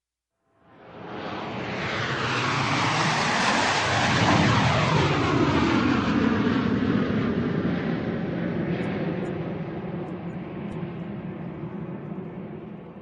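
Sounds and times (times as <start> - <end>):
airplane flying over: 0.7 - 13.0.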